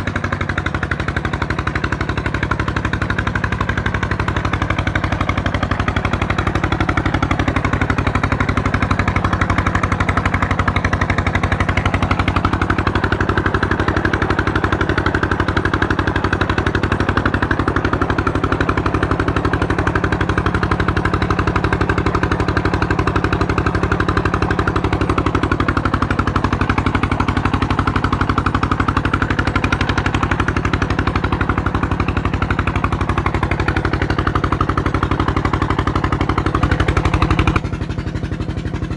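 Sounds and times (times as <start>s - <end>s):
diesel engine putt-putt: 0.0s - 38.9s.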